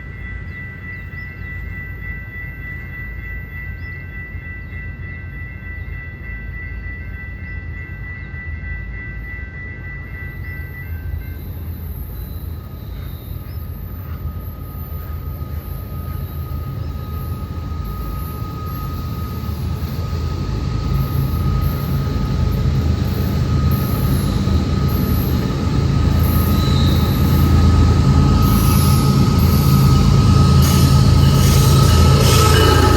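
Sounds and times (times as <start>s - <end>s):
steady high whine: 0.0s - 32.9s
train rumble: 0.0s - 32.9s.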